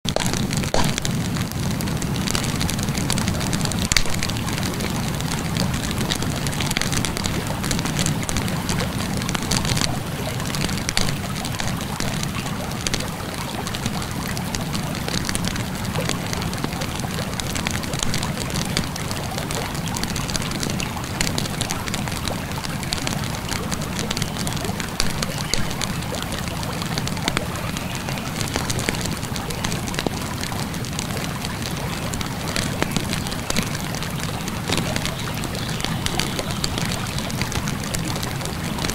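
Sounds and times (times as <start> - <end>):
wood fire crackling and popping: 0.0 - 38.9
flowing river water: 0.1 - 38.9.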